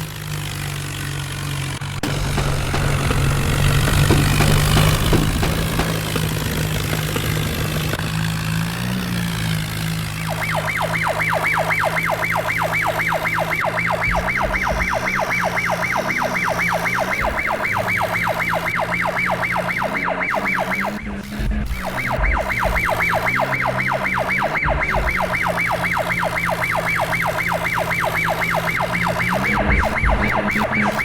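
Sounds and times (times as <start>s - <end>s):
engine running steadily: 0.0s - 31.0s
electronic siren warbling: 2.0s - 8.0s, 10.1s - 31.0s.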